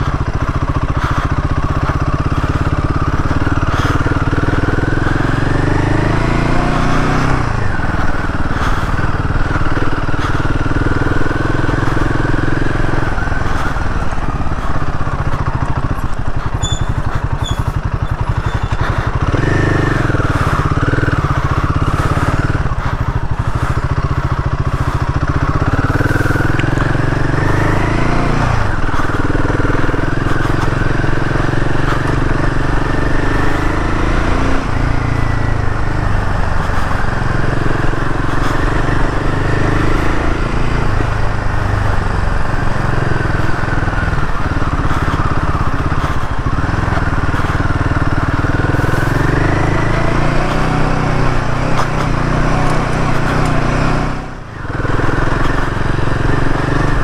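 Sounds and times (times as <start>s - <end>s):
motorcycle engine revving under load: 0.0s - 57.0s.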